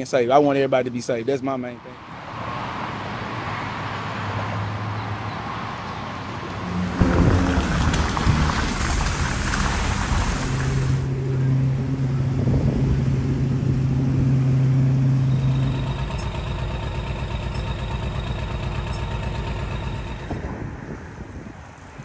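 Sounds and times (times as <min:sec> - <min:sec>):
vehicle engine hum and whine: 0:02.0 - 0:22.0.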